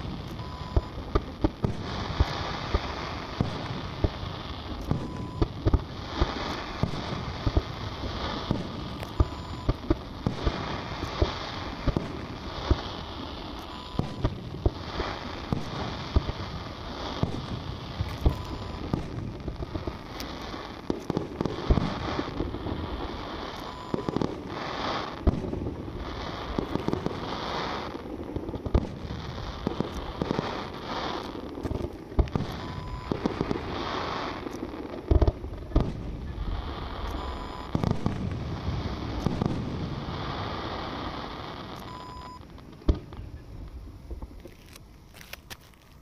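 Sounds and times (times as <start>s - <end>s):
firework bangs: 0.0s - 45.1s
rumble and crackle: 0.0s - 46.0s.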